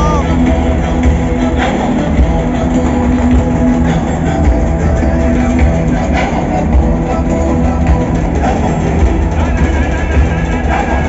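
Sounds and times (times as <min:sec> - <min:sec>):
background music with strong bass: 0:00.0 - 0:11.0.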